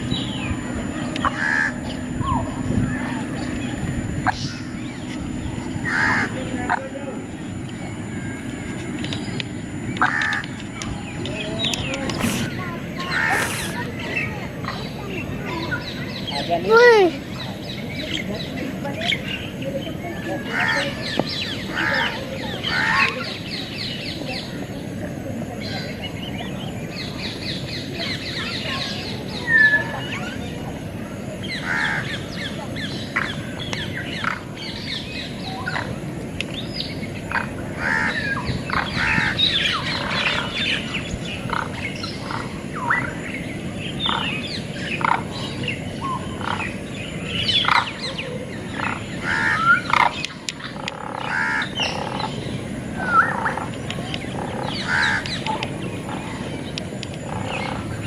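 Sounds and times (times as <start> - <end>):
birds chirping and squawking: 0.0 - 24.5, 31.4 - 58.0
low background noise: 0.0 - 58.0.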